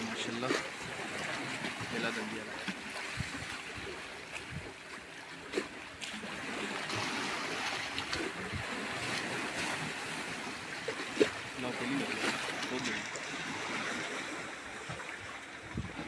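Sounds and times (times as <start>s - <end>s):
sea water splashing on rocks: 0.0s - 16.0s.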